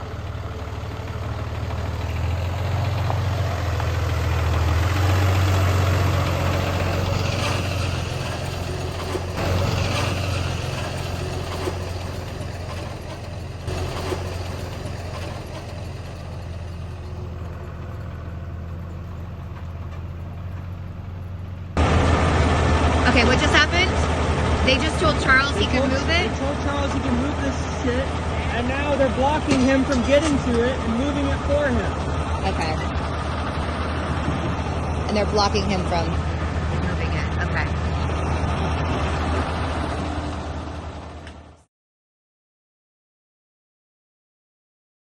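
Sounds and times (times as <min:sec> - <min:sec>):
truck engine idling: 0:00.0 - 0:41.7.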